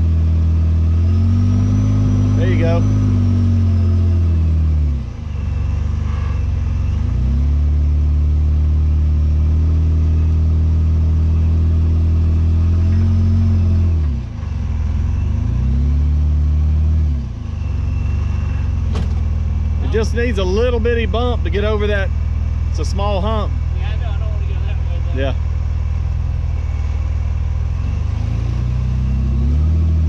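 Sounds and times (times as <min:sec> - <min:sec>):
engine revving under load: 0:00.0 - 0:25.4, 0:26.1 - 0:30.0.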